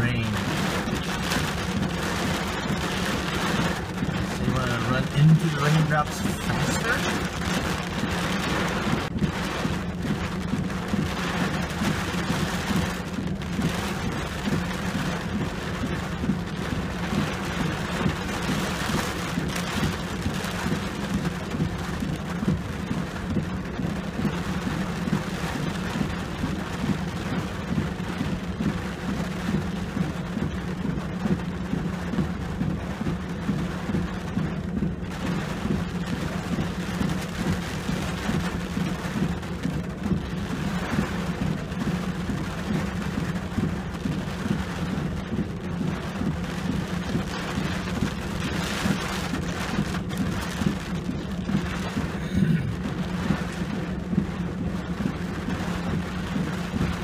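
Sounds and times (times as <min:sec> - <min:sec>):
constant low hum: 0:00.0 - 0:57.0
rain on a vehicle roof: 0:00.0 - 0:57.0
windshield wipers sweeping: 0:00.0 - 0:57.0.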